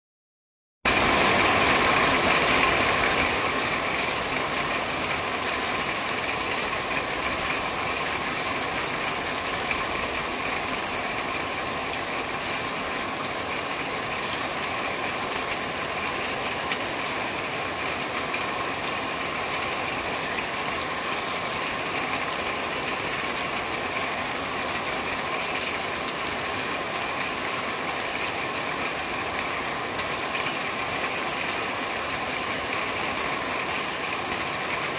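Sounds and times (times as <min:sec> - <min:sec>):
rain on a metal roof: 0:00.9 - 0:34.9.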